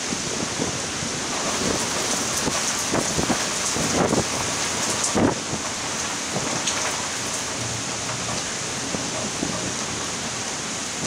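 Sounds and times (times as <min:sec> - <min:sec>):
torrential rain pouring: 0:00.0 - 0:11.0.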